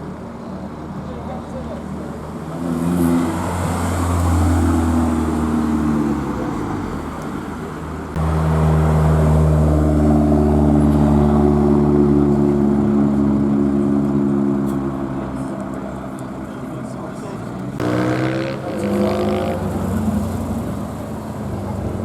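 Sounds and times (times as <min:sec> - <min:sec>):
car engines running: 0:00.0 - 0:22.0
loud engine drone: 0:00.6 - 0:22.0.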